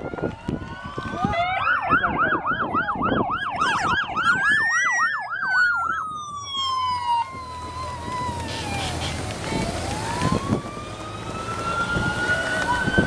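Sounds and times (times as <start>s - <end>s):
police siren wailing: 0.0s - 13.0s
police siren yelping: 0.0s - 13.0s.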